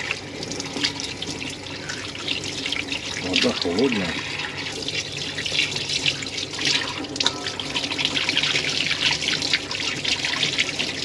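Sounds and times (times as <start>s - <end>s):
running water splashing: 0.0s - 11.0s.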